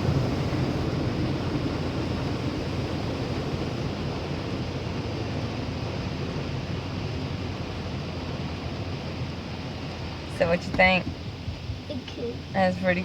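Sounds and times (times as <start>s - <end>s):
car wash water spraying: 0.0s - 11.7s.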